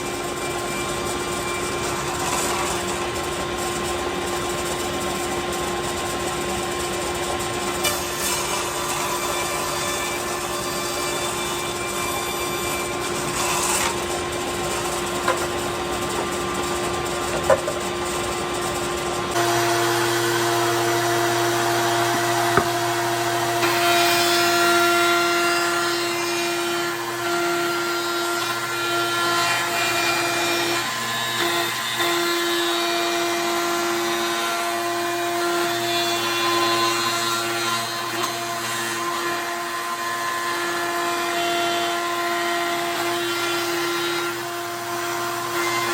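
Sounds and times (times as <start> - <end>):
power tool humming and whining: 0.0 - 45.9.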